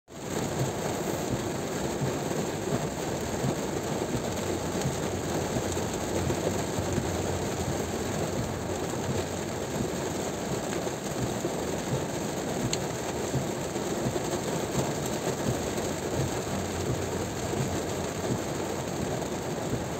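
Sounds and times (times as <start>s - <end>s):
tyres rumbling on wet road: 0.1s - 19.9s
rain hiss: 0.2s - 19.9s.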